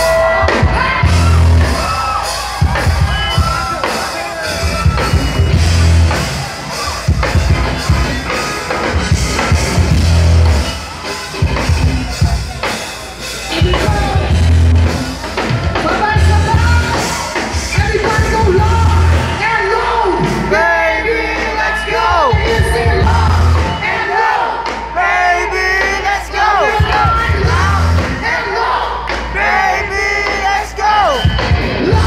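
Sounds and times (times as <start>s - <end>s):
rock band playing live: 0.0s - 32.0s.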